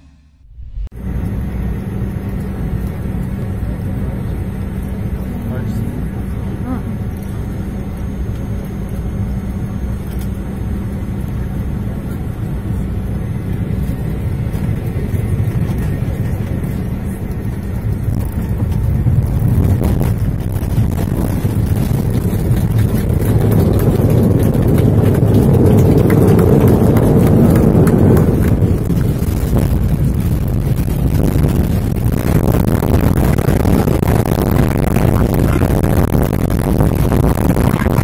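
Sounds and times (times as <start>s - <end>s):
airliner engine rumble: 0.0s - 38.0s.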